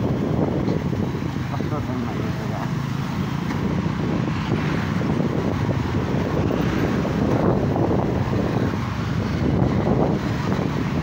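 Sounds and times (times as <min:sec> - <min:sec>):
low rumble of engines: 0:00.0 - 0:11.0
wind buffeting microphone: 0:00.0 - 0:11.0.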